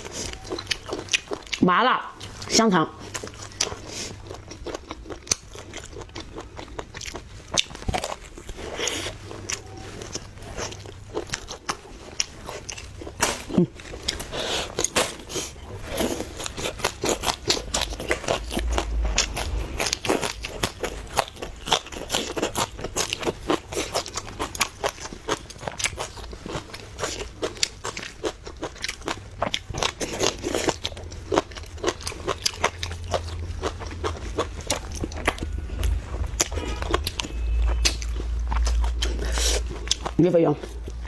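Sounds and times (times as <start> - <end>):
chewing and crunching: 0.0 - 41.0.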